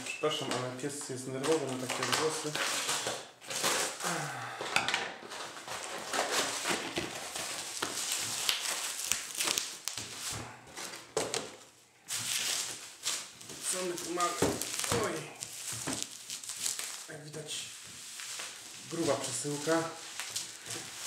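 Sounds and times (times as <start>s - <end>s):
cardboard and bubble wrap crinkling: 0.0s - 21.0s.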